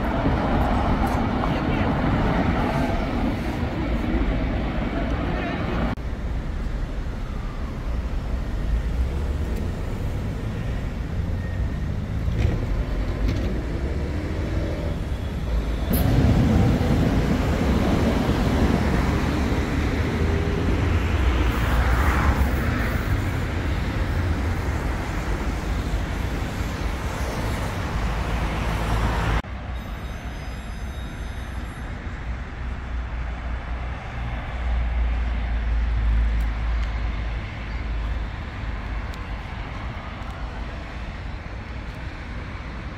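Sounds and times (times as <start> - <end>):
street traffic rumble: 0.0 - 42.9.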